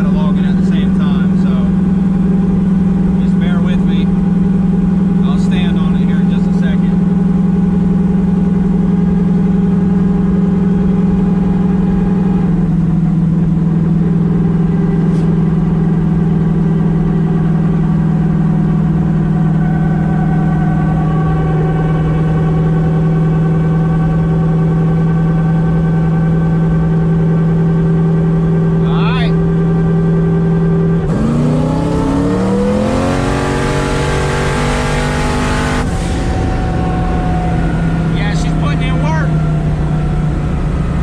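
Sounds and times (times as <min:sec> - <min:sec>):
car engine droning in cabin: 0:00.0 - 0:41.0.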